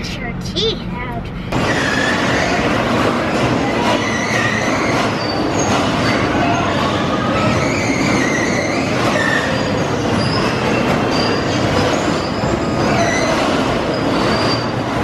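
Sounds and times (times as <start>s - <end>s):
bumper cars running: 0.0s - 15.0s.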